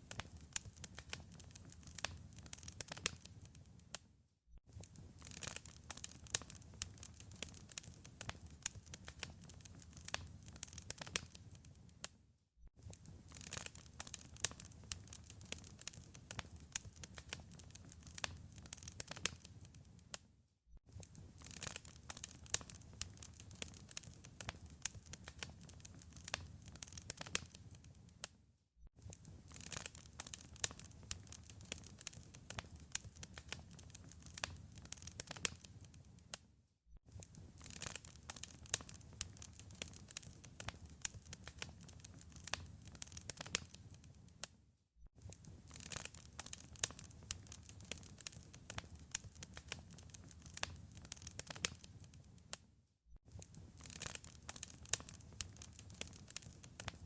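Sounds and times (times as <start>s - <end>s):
wood fire crackling: 0.0s - 3.7s, 4.7s - 12.1s, 12.8s - 20.2s, 20.9s - 28.3s, 29.0s - 36.4s, 37.1s - 44.4s, 45.2s - 52.6s, 53.3s - 57.0s.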